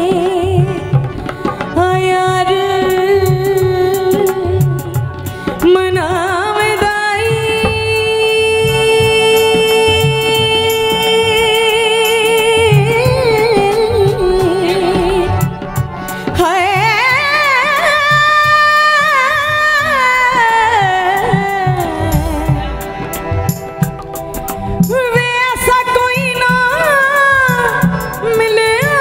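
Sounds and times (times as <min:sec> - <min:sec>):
low pulsing rhythmic backing: 0:00.0 - 0:29.0
woman singing into a microphone: 0:00.0 - 0:29.0.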